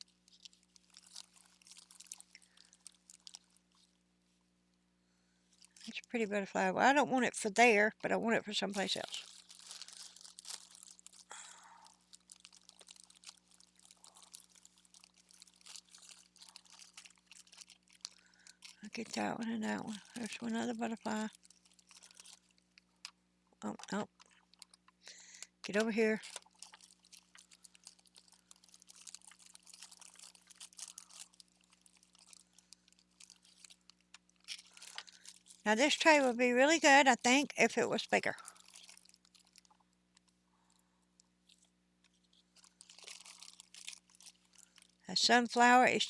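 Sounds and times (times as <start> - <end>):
small objects clicking and rustling: 0.0 - 3.9, 8.8 - 36.3, 38.3 - 40.3, 41.2 - 45.0.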